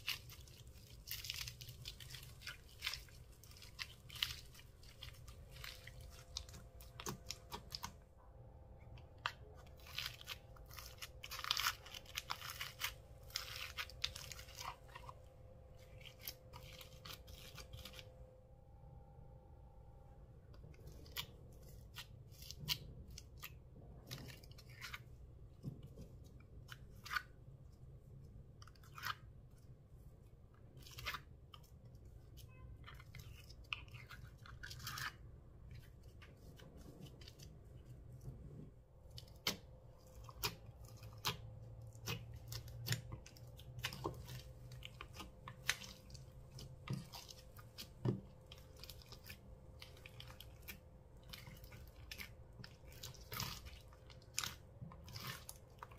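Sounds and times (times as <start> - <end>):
hands squishing sticky slime: 0.0 - 8.1, 8.8 - 18.1, 20.6 - 55.9.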